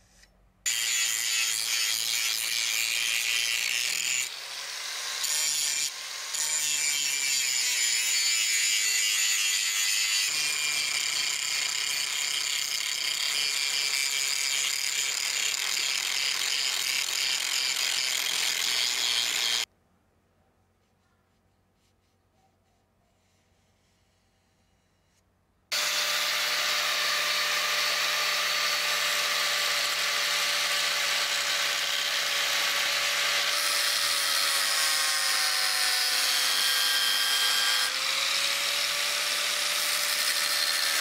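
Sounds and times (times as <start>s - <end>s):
angle grinder grinding metal: 0.7s - 19.7s, 25.7s - 41.0s.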